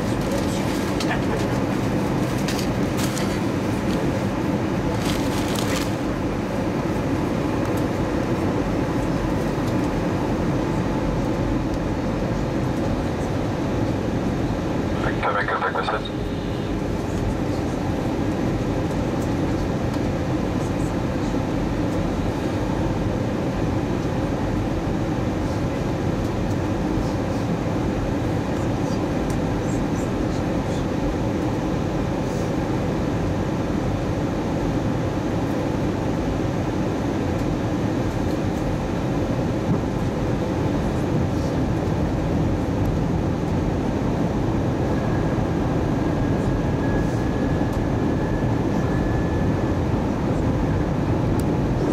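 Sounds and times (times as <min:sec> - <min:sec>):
airplane cabin engine rush: 0:00.0 - 0:51.9.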